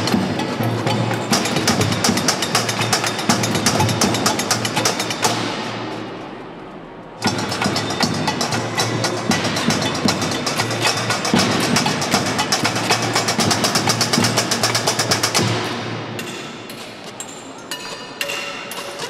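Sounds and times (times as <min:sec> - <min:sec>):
hand percussion on found objects: 0:00.0 - 0:06.2, 0:07.2 - 0:19.0.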